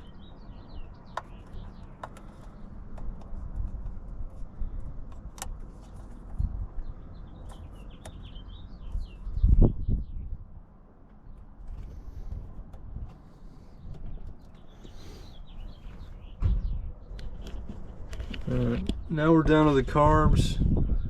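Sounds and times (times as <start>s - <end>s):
birds chirping: 0.0s - 5.0s, 5.6s - 21.0s.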